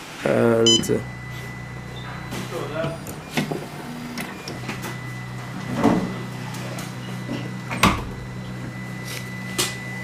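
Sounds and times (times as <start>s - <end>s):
printer humming with high whine: 0.0s - 10.0s.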